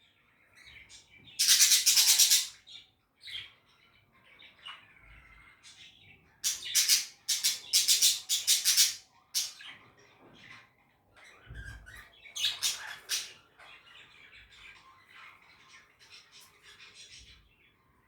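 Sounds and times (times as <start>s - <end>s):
budgerigars squawking and chattering: 0.5s - 17.6s.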